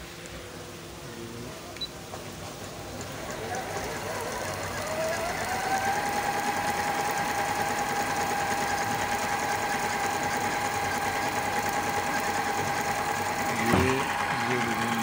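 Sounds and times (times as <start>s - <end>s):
sewing machine stitching: 2.5s - 15.0s.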